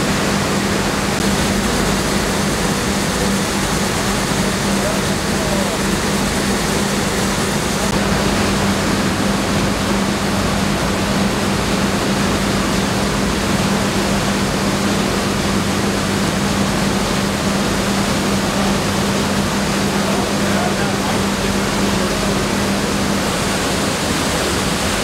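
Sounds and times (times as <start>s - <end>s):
low machine hum: 0.0s - 25.0s
mill machinery rushing: 0.0s - 25.0s.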